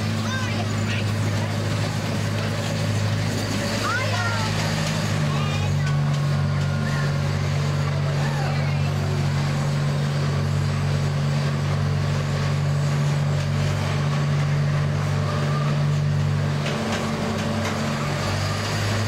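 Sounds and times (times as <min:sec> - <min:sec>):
locomotive low drone: 0:00.0 - 0:19.0.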